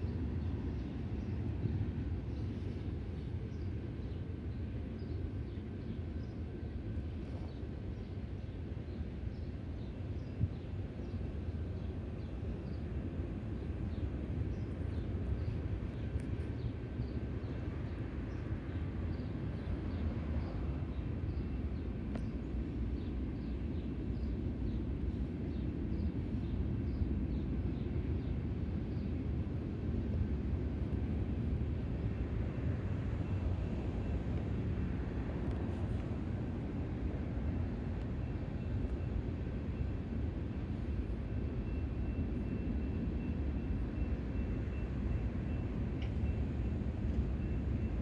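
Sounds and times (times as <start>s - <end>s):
freight train rumbling: 0.0s - 48.0s.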